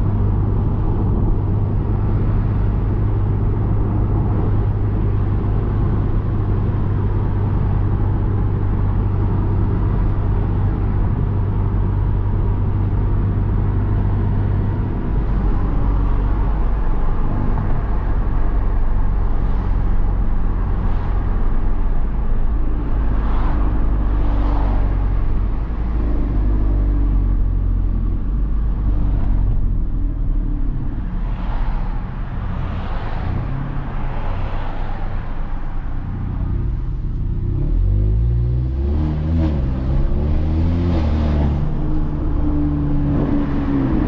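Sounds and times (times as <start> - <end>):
car engine droning: 0.0 - 44.0
road noise: 0.0 - 44.0.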